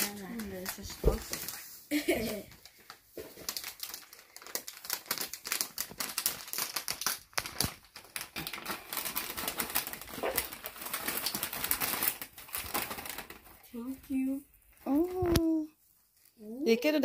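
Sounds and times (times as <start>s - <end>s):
wrapping paper crinkling and tearing: 0.0s - 16.6s.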